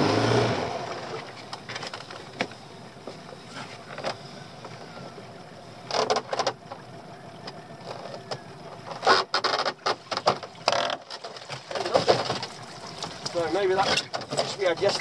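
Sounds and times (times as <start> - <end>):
water splashing and running off: 0.5 - 5.0, 7.4 - 15.0.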